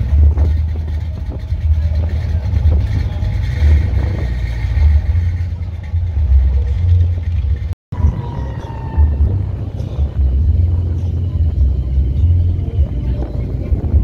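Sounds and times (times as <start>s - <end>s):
car engine exhaust rumble: 0.0s - 14.0s.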